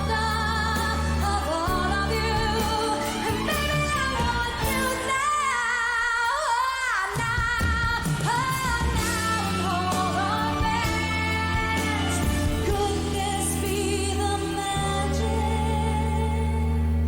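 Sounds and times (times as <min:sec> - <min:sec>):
live band playing: 0:00.0 - 0:17.0
woman singing with vibrato: 0:00.0 - 0:17.0.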